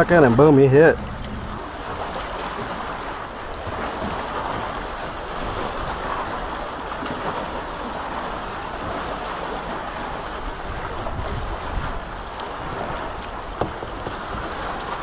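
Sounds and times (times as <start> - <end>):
water lapping and splashing: 0.0 - 15.0
wind buffeting microphone: 0.0 - 15.0.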